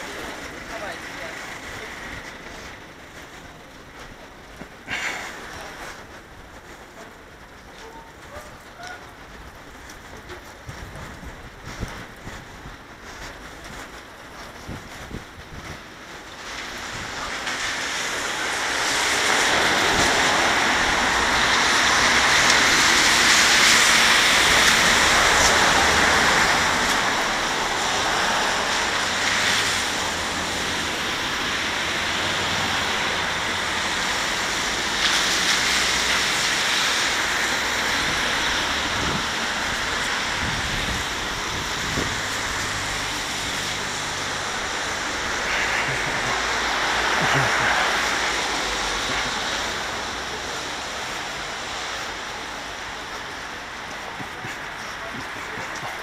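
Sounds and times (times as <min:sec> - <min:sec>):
car tyres hissing on wet street: 0:00.0 - 0:56.0.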